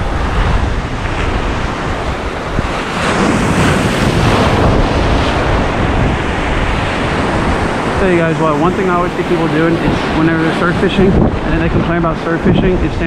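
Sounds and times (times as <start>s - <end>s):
surf breaking and foaming: 0.0s - 13.0s
wind rumbling on microphone: 0.0s - 13.0s.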